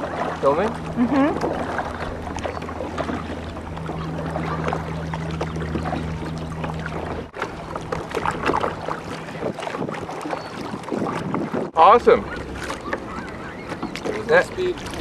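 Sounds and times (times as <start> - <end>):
water splashing around boat: 0.0 - 15.0.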